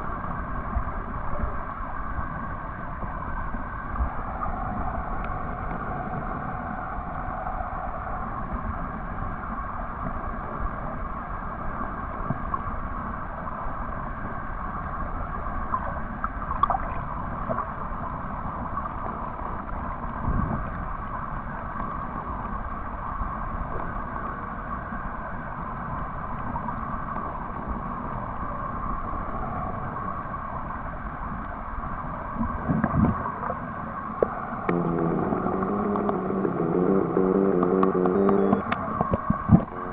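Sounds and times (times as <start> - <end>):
underwater rumble and hiss: 0.0 - 39.9.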